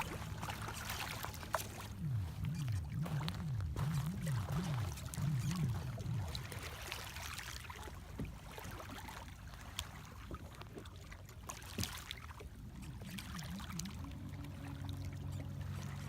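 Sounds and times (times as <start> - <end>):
low warbling hum: 0.0 - 9.7, 11.3 - 16.0
water splashing from paddling: 0.0 - 16.0.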